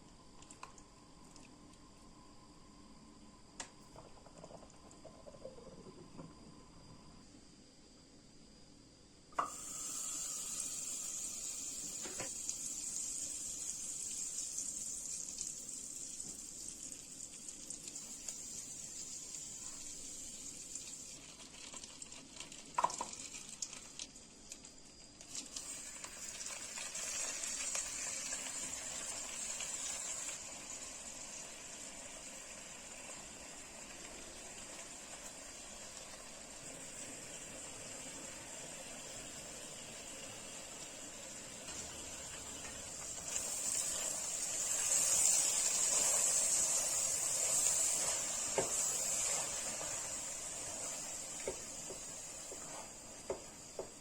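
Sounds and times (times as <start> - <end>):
food frying in hot oil: 9.4 - 54.0.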